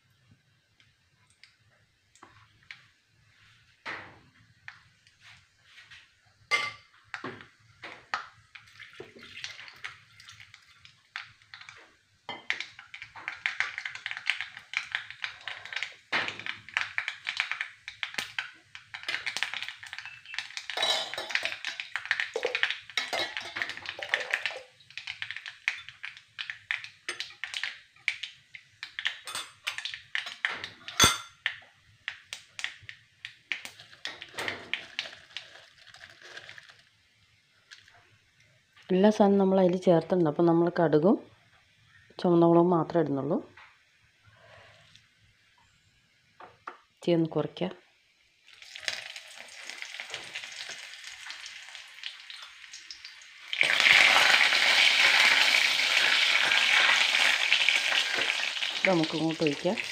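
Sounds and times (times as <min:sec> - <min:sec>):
seeds spluttering in hot oil: 0:00.6 - 0:39.8, 0:47.9 - 0:59.9.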